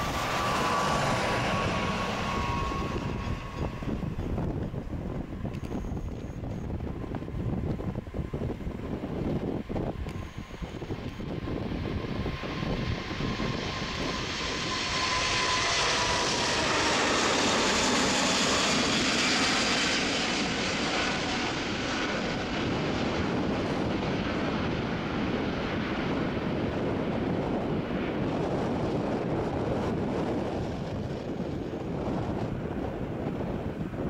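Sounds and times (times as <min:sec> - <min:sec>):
jet roar with whining tone: 0:00.0 - 0:34.0.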